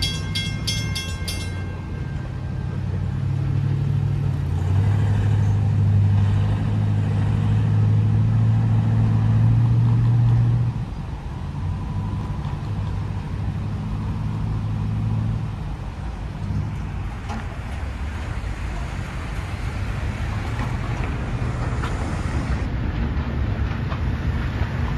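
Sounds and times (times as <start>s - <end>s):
diesel engine drone: 0.0s - 24.9s
rail cars rolling: 0.0s - 24.9s.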